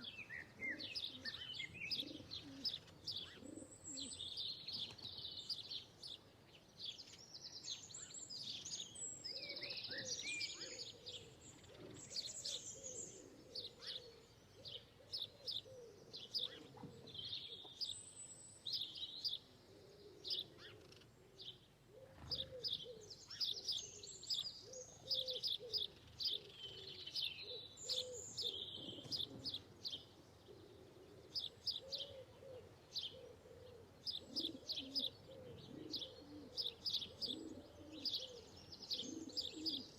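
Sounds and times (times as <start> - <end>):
low cooing call: 0.0 - 4.2, 9.3 - 17.7, 19.7 - 39.9
birds chirping and twittering: 0.0 - 39.9.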